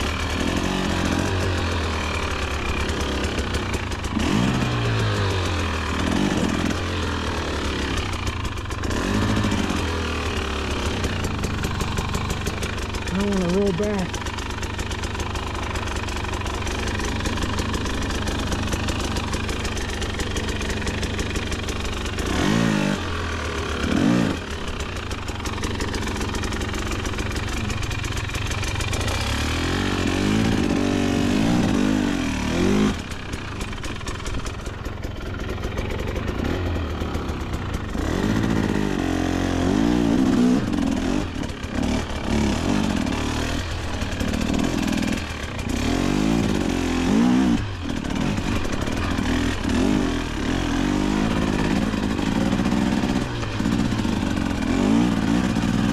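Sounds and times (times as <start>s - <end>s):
dirt bike engine revving: 0.0s - 34.6s, 35.4s - 55.9s.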